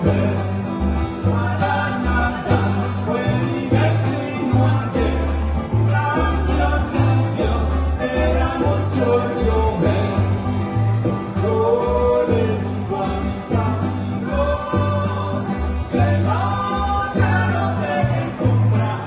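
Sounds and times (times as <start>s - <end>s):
person singing: 0.0s - 19.0s
plucked bass line: 0.0s - 19.0s
strummed acoustic guitars: 0.0s - 19.0s.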